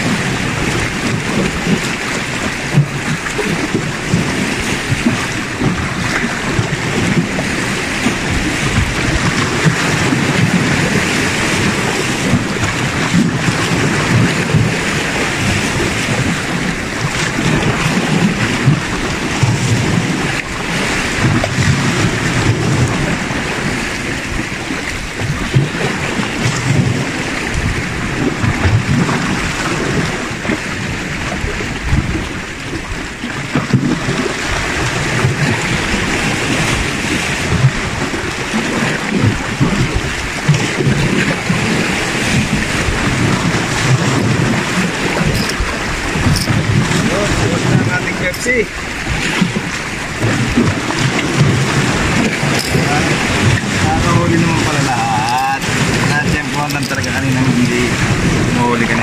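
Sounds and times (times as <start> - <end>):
sea waves washing against rocks: 0.0 - 59.0
wind buffeting microphone: 0.0 - 59.0.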